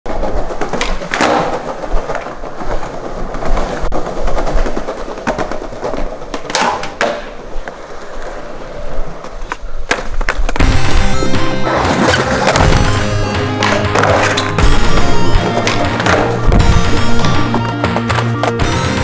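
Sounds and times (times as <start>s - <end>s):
skateboard clacks: 0.1s - 10.8s, 11.6s - 19.0s
skateboard wheels rumbling: 0.1s - 19.0s.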